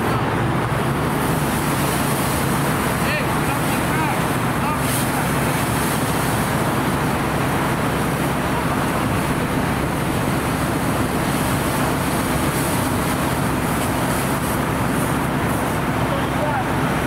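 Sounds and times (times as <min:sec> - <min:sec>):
fire engine pump droning: 0:00.0 - 0:17.0
water stream hissing from nozzle: 0:00.9 - 0:17.0.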